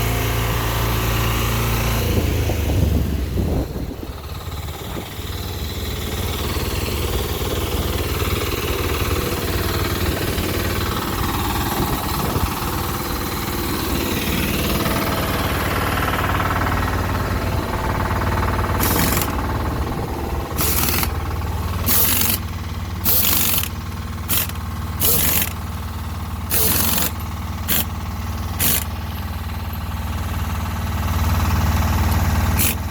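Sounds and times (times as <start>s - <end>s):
motor whine: 0.0s - 25.7s, 26.4s - 29.9s, 32.1s - 32.9s
electric forklift humming: 0.0s - 32.9s
rapid mechanical rattle: 3.5s - 32.9s.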